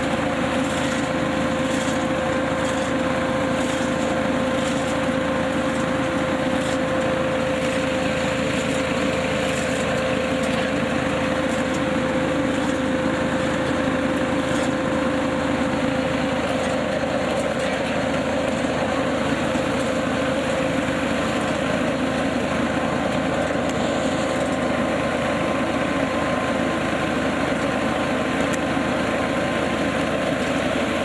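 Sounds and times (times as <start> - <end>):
tractor and harvesting machine droning: 0.0 - 31.0.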